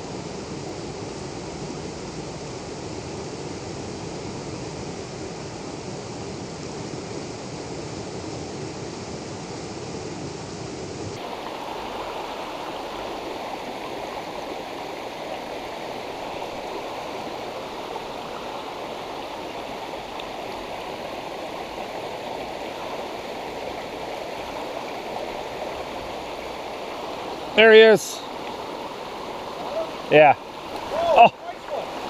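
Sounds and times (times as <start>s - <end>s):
brook water running: 0.0s - 32.0s.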